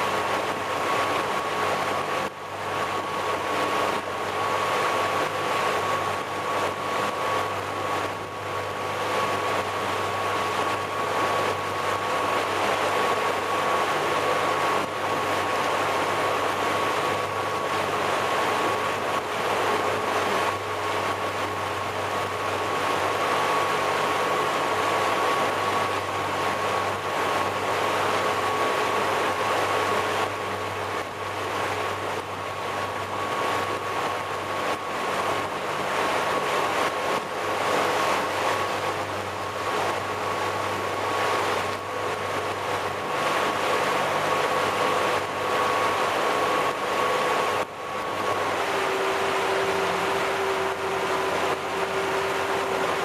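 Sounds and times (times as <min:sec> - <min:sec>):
boat engine droning: 0:00.0 - 0:53.0
churning wake rushing: 0:00.0 - 0:53.0.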